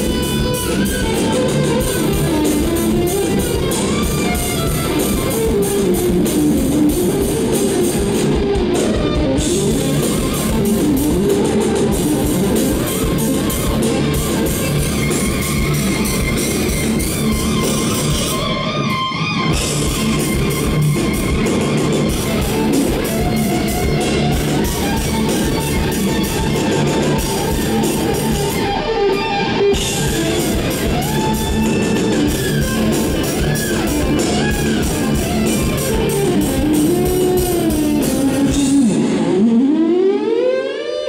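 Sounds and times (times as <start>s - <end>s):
drums: 0.0s - 40.3s
bass guitar: 0.0s - 40.8s
electric guitar lead: 0.0s - 41.0s.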